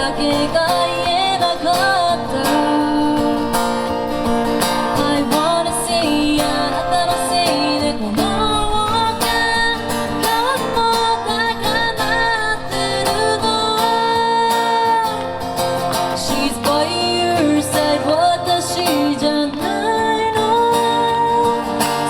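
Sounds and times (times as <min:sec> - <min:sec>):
strummed acoustic guitar: 0:00.0 - 0:22.0
woman singing pop ballad: 0:00.0 - 0:22.0.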